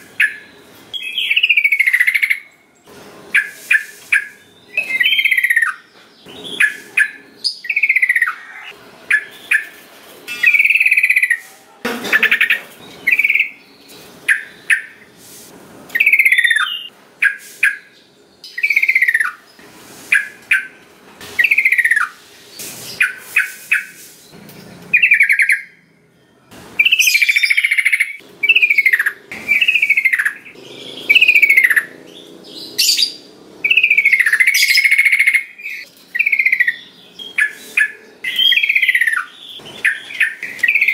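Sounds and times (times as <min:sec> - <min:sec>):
bird calling and singing: 0:00.0 - 0:02.6, 0:03.3 - 0:15.1, 0:15.9 - 0:40.9.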